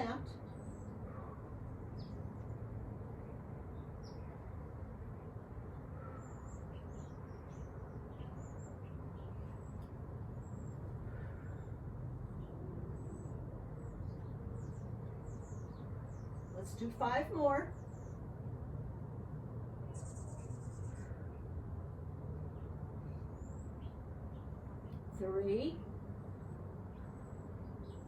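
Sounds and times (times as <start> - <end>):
birds chirping: 0.0 - 28.0
low background rumble: 0.0 - 28.0.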